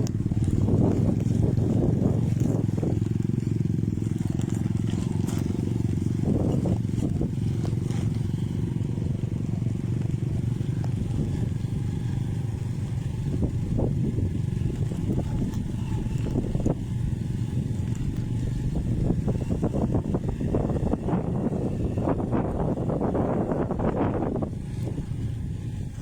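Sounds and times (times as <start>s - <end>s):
small engine droning: 0.0s - 26.0s.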